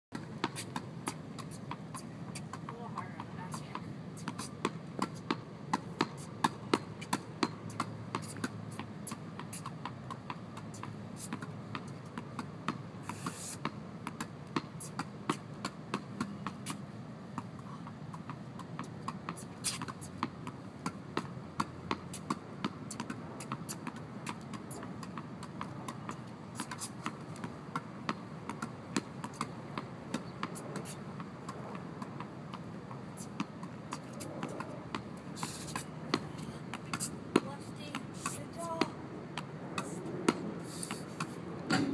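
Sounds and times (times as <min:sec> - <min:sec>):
tennis balls bouncing and struck: 0:00.2 - 0:41.9.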